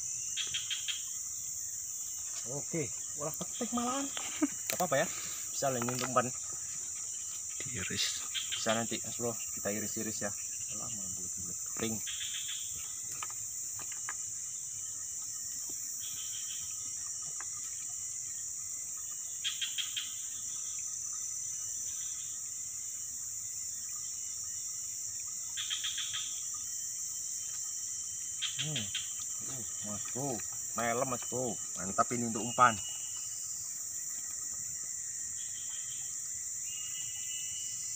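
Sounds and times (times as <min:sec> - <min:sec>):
insect chorus drone: 0:00.0 - 0:37.9
quick insect chirps: 0:00.0 - 0:37.9.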